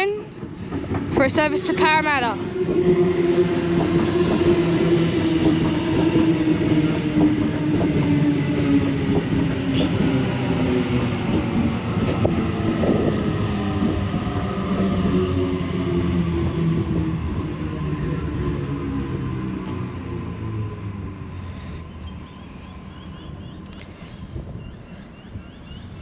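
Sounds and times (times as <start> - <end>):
electric train rumble: 0.0 - 26.0.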